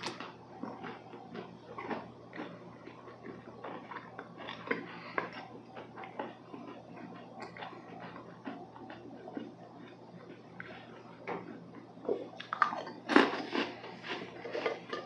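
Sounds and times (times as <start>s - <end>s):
chewing crisp cookies: 0.0s - 15.0s.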